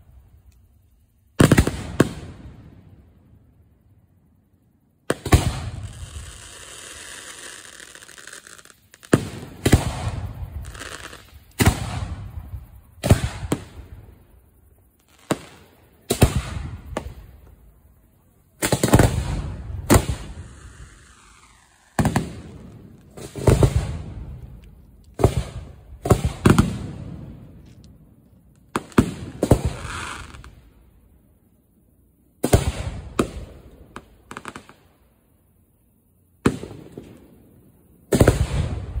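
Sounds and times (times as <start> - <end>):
crackling hiss: 0.0 - 39.0.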